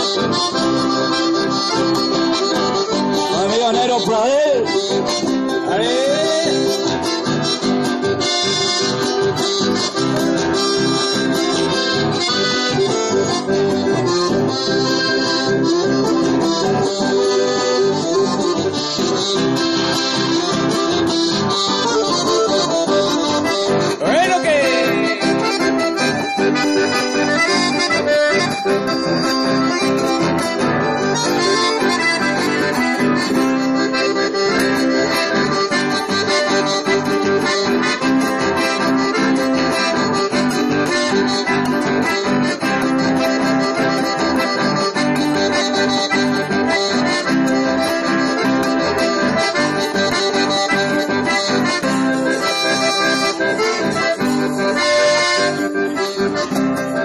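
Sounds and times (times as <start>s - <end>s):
button accordion melody: 0.0s - 57.0s
strummed acoustic guitars: 0.0s - 57.0s.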